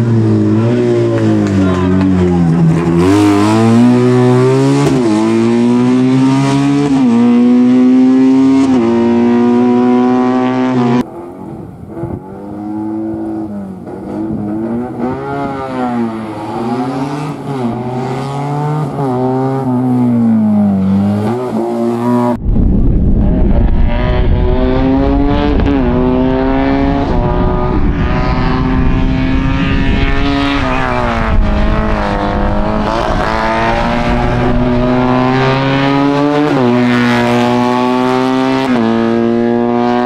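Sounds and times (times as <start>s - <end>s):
race car engine revving: 0.0s - 22.4s, 23.1s - 40.0s.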